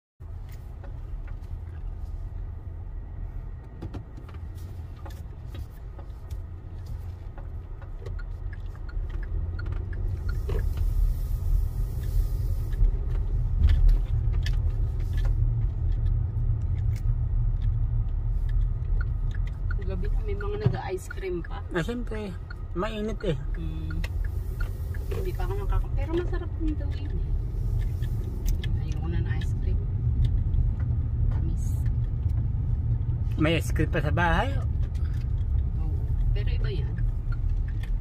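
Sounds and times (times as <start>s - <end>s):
car engine and road rumble: 0.2s - 38.0s.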